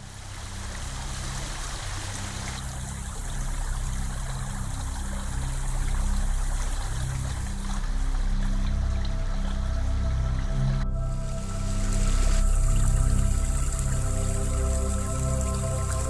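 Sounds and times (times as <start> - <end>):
background music low notes: 0.0 - 16.0
stream water rushing: 0.0 - 16.0.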